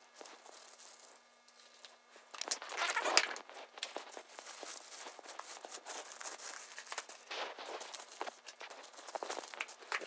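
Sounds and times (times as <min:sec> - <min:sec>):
plastic film crinkling: 0:00.1 - 0:10.0.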